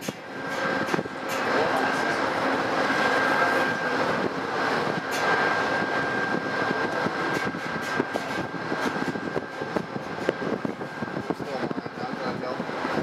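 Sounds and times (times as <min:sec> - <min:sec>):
diesel locomotive engine running: 0:00.0 - 0:13.0
thin high whine: 0:00.0 - 0:13.0.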